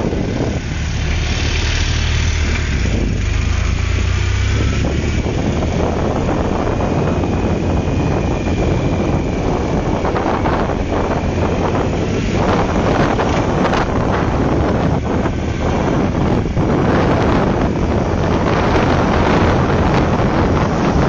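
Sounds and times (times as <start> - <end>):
motorcycle engine running: 0.0 - 21.0
wind noise: 0.0 - 21.0.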